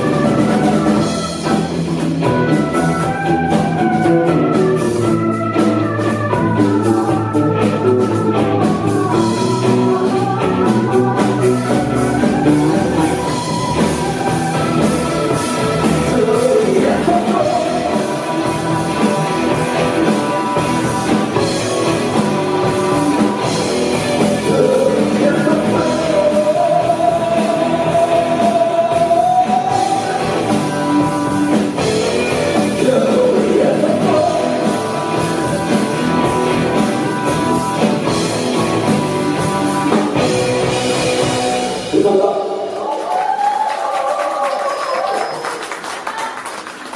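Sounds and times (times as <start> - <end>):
live rock band playing: 0.0 - 42.7.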